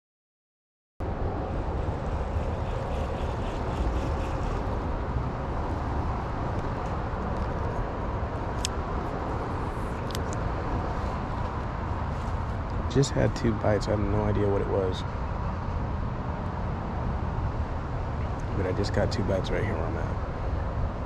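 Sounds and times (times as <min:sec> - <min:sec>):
road traffic rumble: 0:01.0 - 0:21.0.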